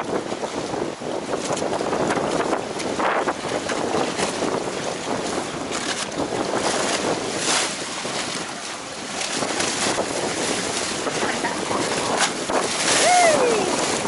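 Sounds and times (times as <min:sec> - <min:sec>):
waves slapping against seawall: 0:00.0 - 0:14.0
wind buffeting microphone: 0:00.0 - 0:14.0.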